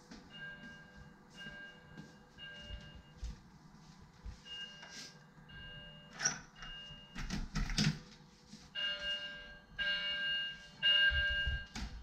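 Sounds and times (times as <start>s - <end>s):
fire alarm beeping: 0.1s - 3.4s, 4.3s - 7.6s, 8.7s - 12.0s.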